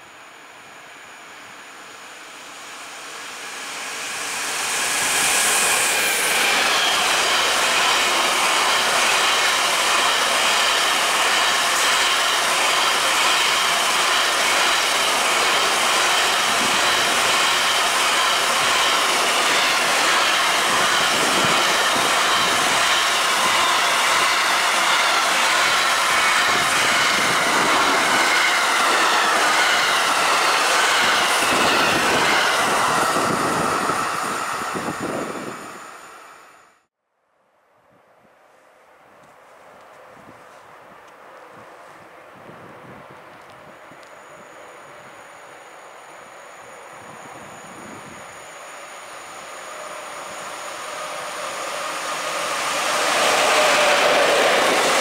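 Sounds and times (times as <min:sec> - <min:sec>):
train wheels rolling on rails: 0:00.0 - 0:36.7, 0:39.2 - 0:55.0.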